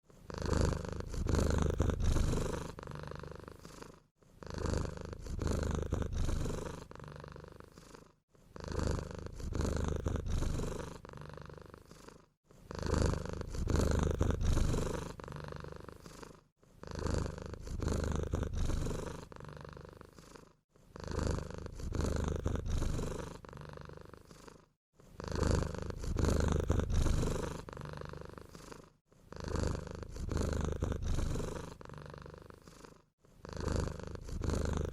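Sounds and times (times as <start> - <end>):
cat snoring: 0.0 - 34.9.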